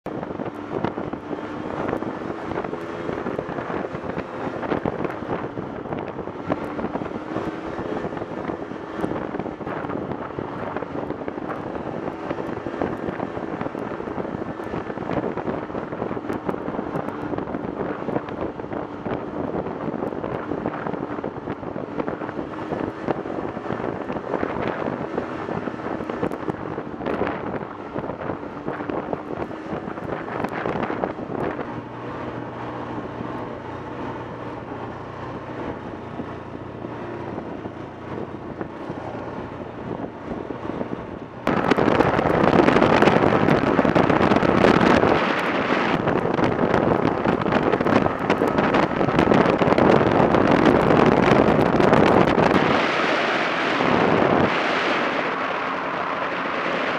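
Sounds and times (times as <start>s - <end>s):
snowmobile engine droning: 0.1s - 56.9s.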